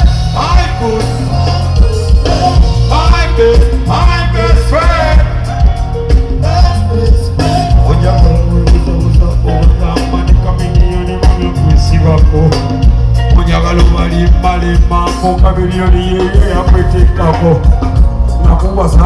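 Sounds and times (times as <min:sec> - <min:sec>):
person singing: 0:00.0 - 0:17.8
live band music: 0:00.0 - 0:19.0.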